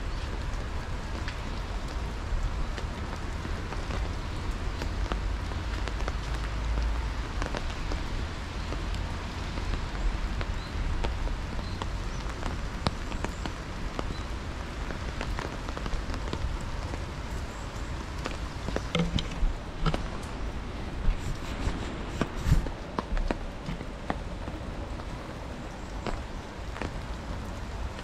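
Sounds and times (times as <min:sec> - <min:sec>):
raindrops ticking: 0:00.0 - 0:28.0
steady rain: 0:00.0 - 0:28.0.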